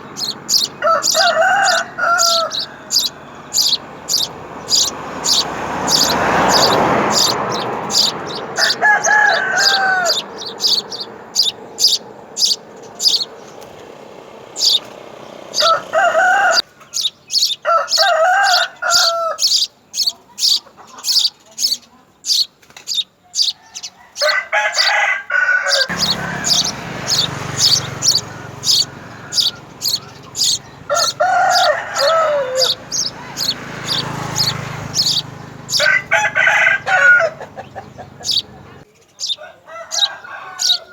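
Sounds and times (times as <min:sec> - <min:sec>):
small birds chirping: 0:00.0 - 0:40.9
rooster crowing: 0:00.1 - 0:13.3, 0:14.6 - 0:14.8, 0:15.5 - 0:20.1, 0:23.2 - 0:40.9.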